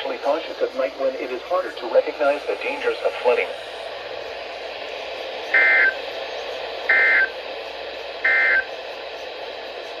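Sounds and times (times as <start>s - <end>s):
radio hiss: 0.0s - 10.0s.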